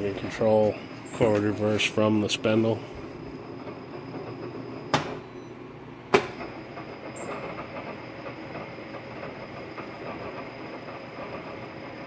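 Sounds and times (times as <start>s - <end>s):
milling machine spindle running: 0.0s - 4.9s, 6.3s - 12.0s.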